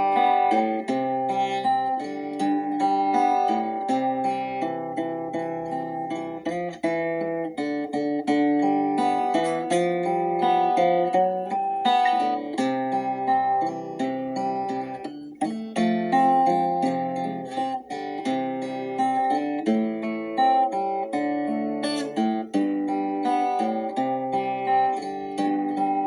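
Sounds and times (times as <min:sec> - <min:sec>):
acoustic guitar plucking: 0:00.0 - 0:26.0.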